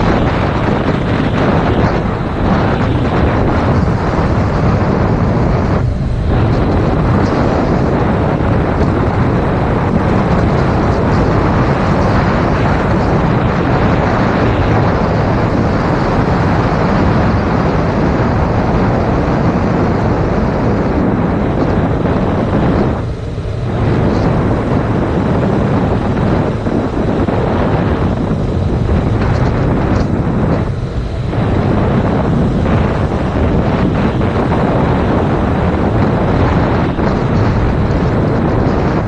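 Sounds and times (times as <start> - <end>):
wind roaring over microphone: 0.0 - 39.0.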